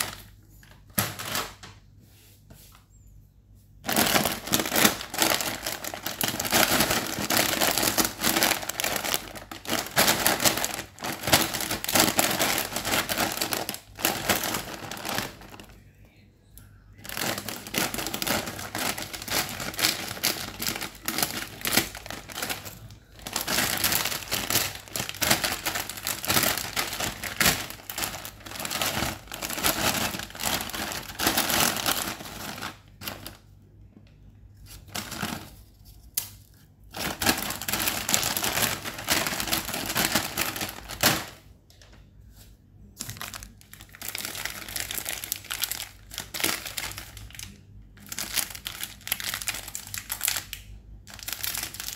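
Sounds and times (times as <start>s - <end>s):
plastic biscuit wrapper crinkling: 3.8s - 15.8s, 17.0s - 33.5s, 34.6s - 41.4s, 42.9s - 51.9s
plastic snack packet crinkling: 3.8s - 15.8s, 17.0s - 33.5s, 34.7s - 35.7s, 36.9s - 41.5s, 43.0s - 51.9s.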